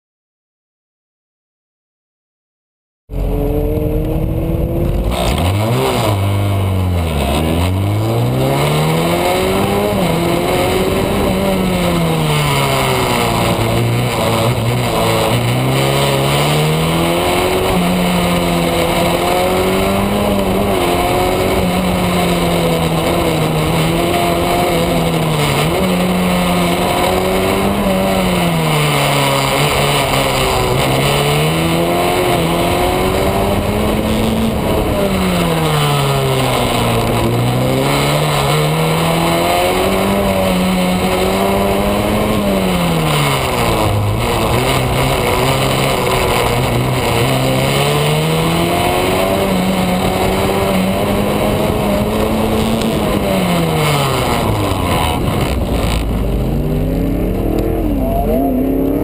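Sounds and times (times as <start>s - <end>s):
race car engine revving: 3.1s - 59.0s
steady rushing noise: 3.1s - 59.0s.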